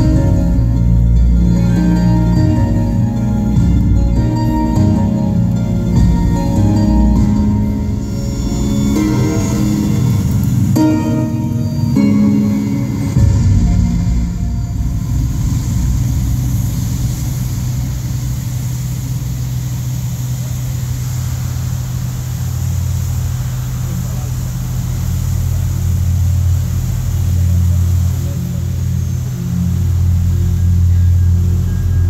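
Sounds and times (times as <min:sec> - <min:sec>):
fountain water spray hissing: 0:00.0 - 0:32.0.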